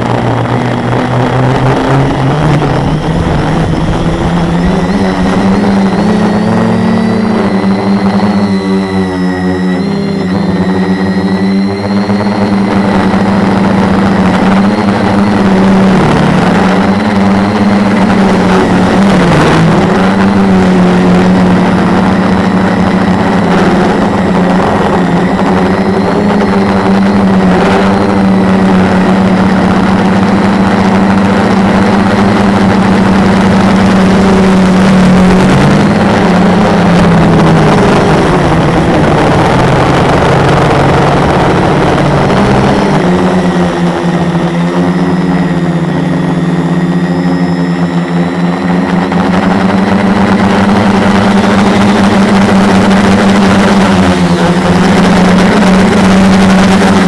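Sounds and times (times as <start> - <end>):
drone motors buzzing: 0.0 - 57.0
wind noise: 0.0 - 57.0.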